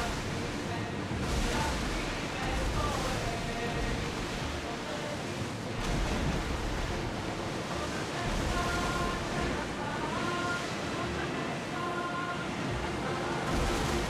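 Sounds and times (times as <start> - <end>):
sea waves: 0.0 - 14.0
wind: 0.0 - 14.0.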